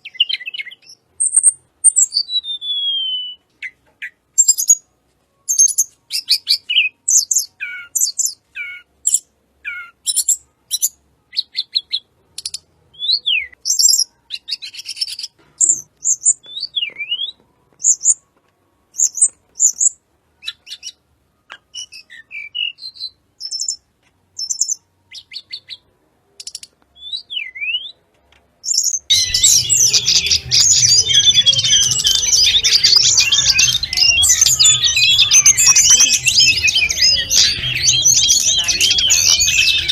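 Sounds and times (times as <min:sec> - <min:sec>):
songbird singing: 0:00.0 - 0:18.3, 0:18.9 - 0:28.0, 0:28.6 - 0:39.9.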